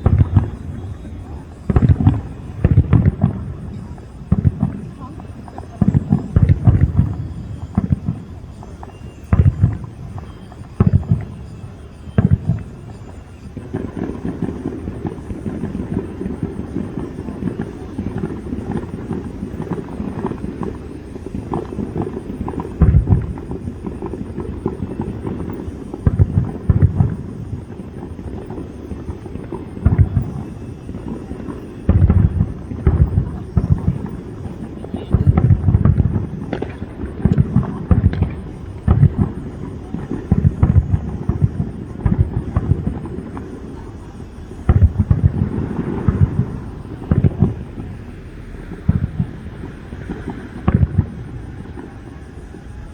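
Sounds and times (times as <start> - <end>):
continuous low din: 0.0 - 52.9
fireworks booming: 0.0 - 52.9.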